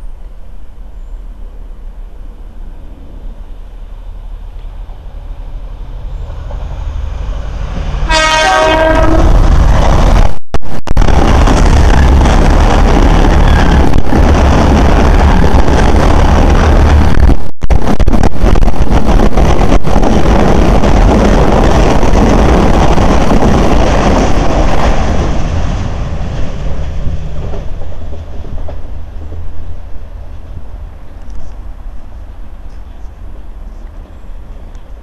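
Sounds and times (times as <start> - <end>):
trains passing at speed: 0.0 - 35.0.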